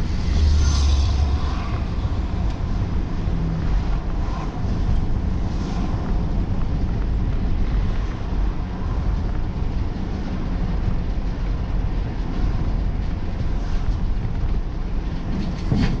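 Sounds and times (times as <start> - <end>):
car engine cruising: 0.0 - 16.0
tyres on the road: 0.0 - 16.0.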